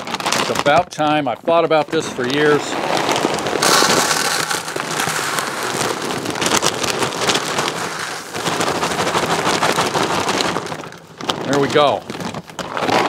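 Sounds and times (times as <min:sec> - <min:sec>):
kibble pouring into plastic bucket: 0:00.0 - 0:13.0.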